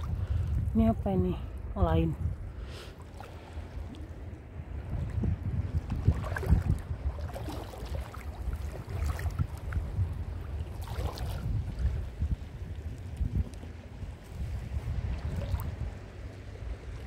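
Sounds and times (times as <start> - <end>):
gusty wind on microphone: 0.0 - 17.0.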